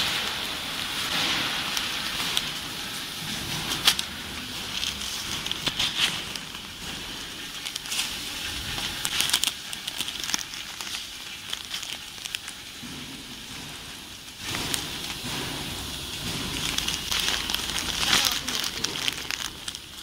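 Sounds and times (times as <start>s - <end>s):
plastic bags crinkling: 0.0s - 20.0s.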